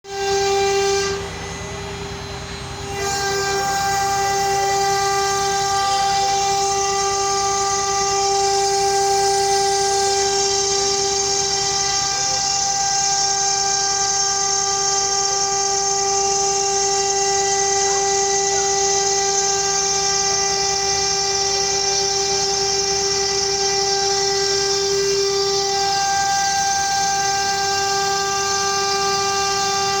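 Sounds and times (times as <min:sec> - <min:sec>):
machine high-pitched whine: 0:00.0 - 0:30.0.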